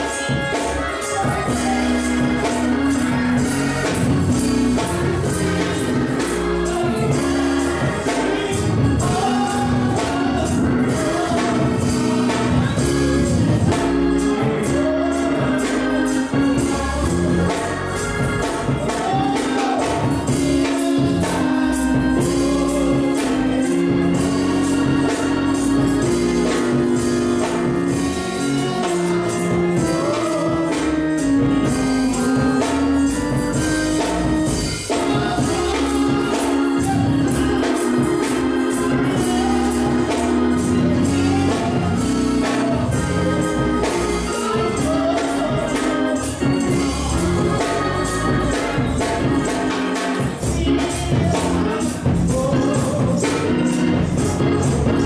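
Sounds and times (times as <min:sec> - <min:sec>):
drum kit: 0:00.0 - 0:55.0
held chords: 0:00.0 - 0:55.0
tambourine rhythm: 0:00.0 - 0:55.0.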